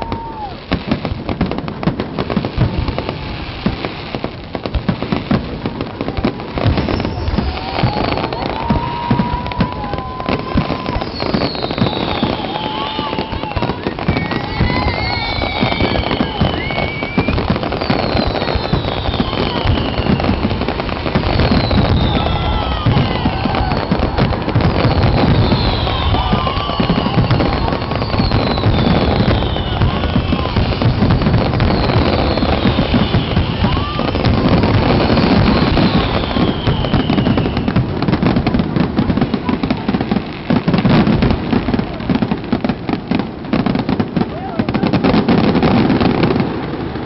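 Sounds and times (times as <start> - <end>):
falling firework whistles: 0.0 - 5.4, 6.3 - 47.0
rapid firework crackling: 0.0 - 47.0.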